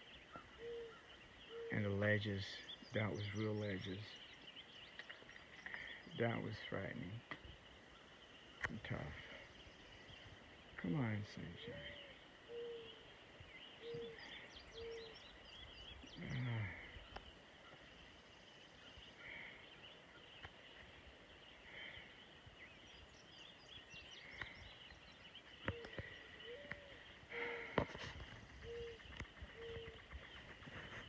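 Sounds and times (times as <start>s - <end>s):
birdsong: 0.0s - 31.0s.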